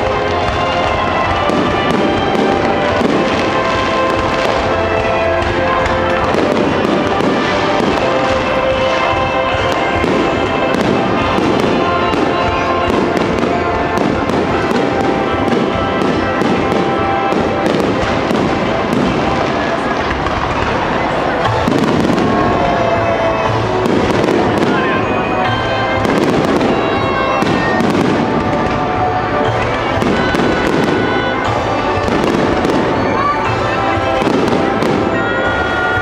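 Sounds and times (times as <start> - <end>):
fireworks crackle: 0.0 - 36.0
fireworks shells bursting: 0.0 - 36.0.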